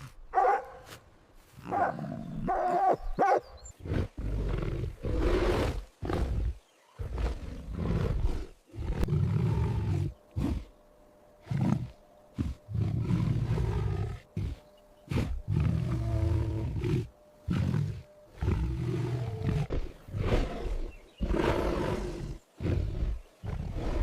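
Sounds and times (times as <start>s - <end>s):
big cat roaring: 3.8s - 10.7s, 11.4s - 24.0s.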